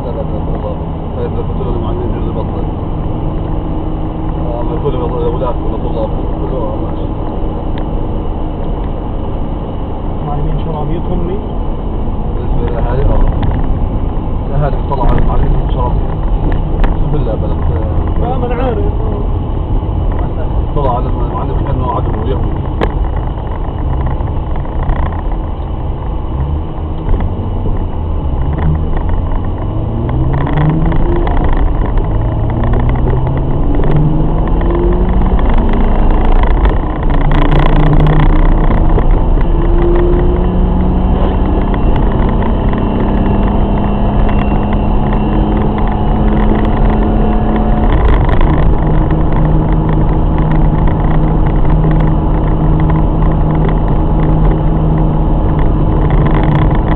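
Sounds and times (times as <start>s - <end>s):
car engine accelerating through gears: 0.0s - 56.9s.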